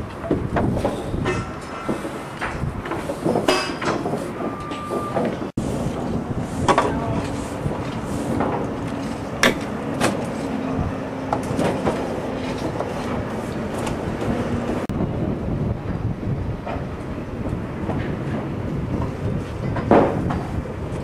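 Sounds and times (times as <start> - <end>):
machinery rumbling: 0.0 - 21.0.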